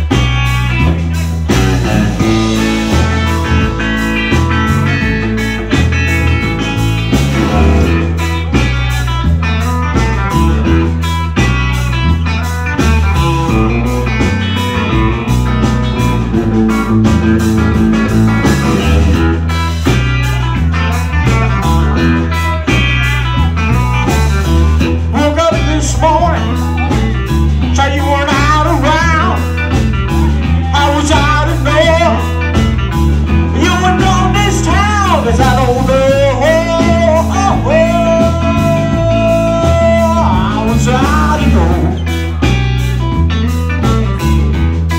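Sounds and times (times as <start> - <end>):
blues band playing: 0.0 - 44.9
electric guitar bending notes: 0.0 - 44.9.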